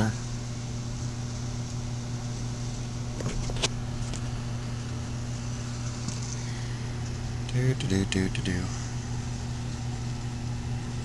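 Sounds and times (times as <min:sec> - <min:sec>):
diesel engine low hum: 0:00.0 - 0:11.0.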